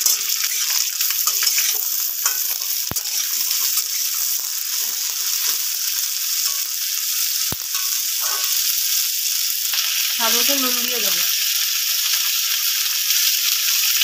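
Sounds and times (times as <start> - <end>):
vegetables frying hiss: 0.0 - 14.0.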